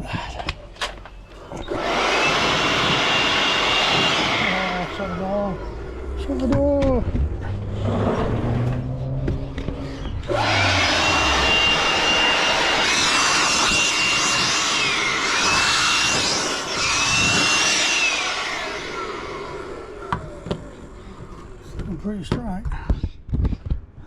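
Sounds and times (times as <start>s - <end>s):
electric blower whining: 0.4s - 22.0s.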